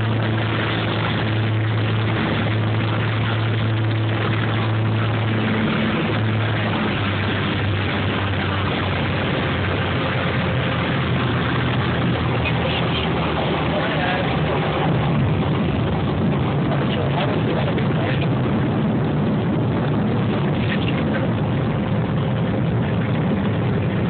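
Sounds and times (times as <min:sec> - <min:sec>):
propeller aircraft cabin drone: 0:00.0 - 0:24.0.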